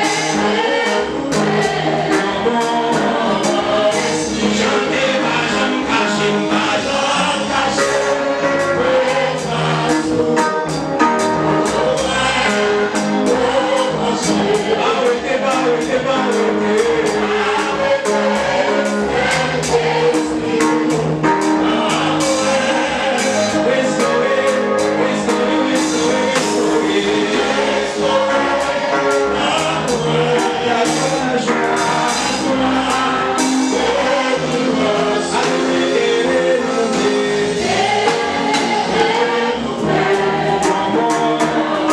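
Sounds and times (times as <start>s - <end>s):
congregation singing: 0.0s - 41.9s
instrumental accompaniment: 0.0s - 41.9s
steady percussion beat: 0.0s - 41.9s.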